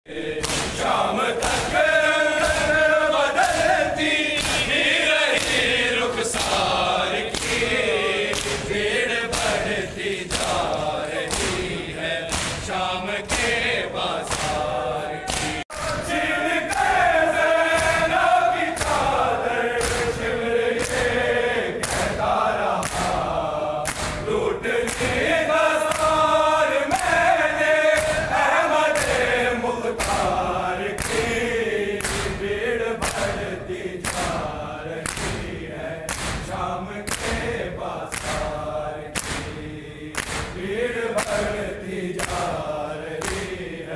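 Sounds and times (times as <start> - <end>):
men chanting in unison: 0.1 - 43.9
chest-beating slaps: 0.2 - 43.7.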